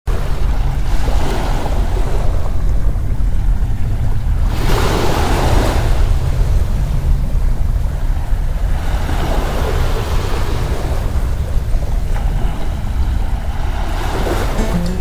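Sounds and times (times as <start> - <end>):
ocean surf: 0.1 - 15.0
wind: 0.1 - 15.0.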